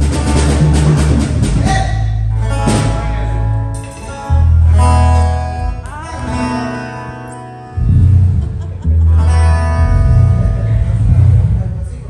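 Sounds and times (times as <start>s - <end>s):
deep bass guitar notes: 0.0s - 12.0s
plucked electric guitar: 0.0s - 12.0s.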